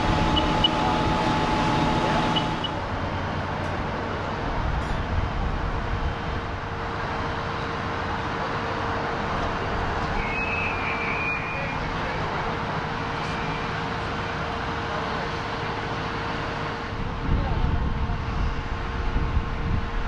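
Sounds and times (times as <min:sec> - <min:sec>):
diesel engine drone: 0:00.0 - 0:20.0.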